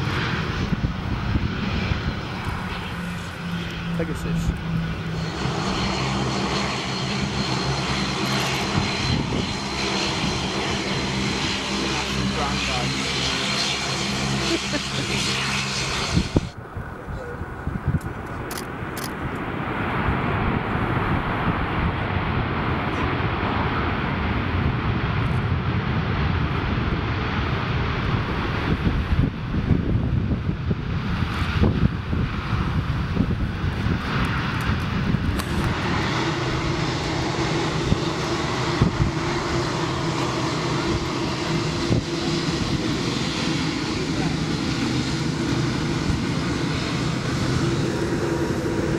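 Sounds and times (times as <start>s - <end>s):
jet airliner engines running: 0.0s - 48.9s.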